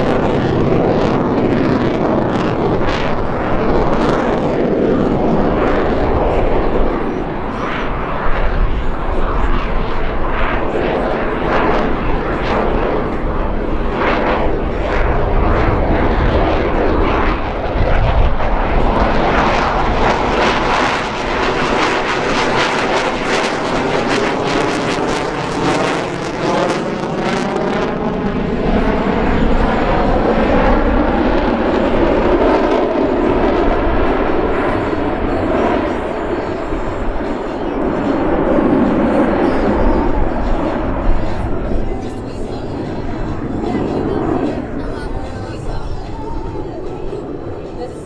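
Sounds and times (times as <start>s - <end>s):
loud jet engine noise: 0.0s - 48.0s.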